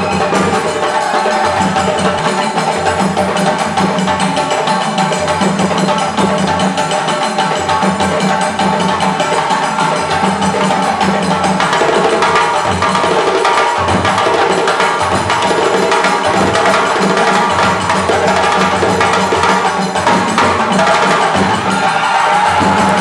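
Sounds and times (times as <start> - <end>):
djembes: 0.0 - 23.0.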